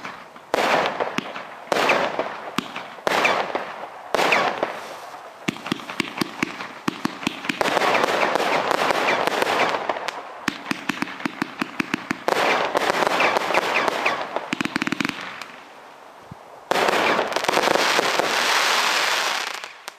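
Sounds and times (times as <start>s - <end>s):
firework rapid sharp bangs: 0.0s - 15.5s, 16.7s - 19.6s
firework dense crackling: 0.0s - 19.9s.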